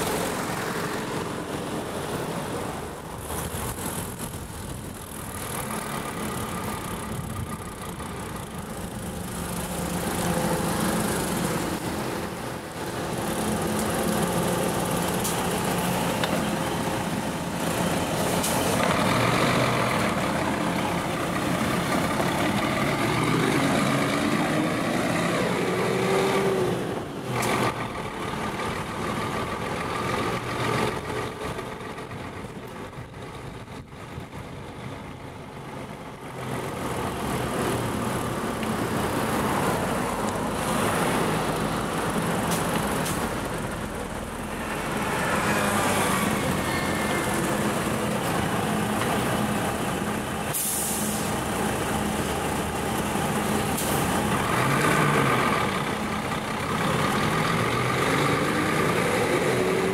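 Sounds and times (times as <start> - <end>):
large vehicle engine running: 0.0 - 59.9
road traffic: 0.0 - 59.9.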